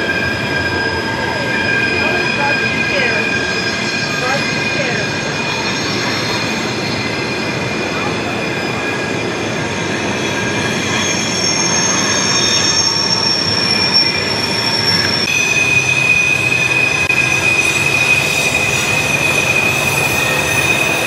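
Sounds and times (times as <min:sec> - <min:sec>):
rumble of rolling train cars: 0:00.0 - 0:21.0
train wheels squealing on rail: 0:00.0 - 0:21.0.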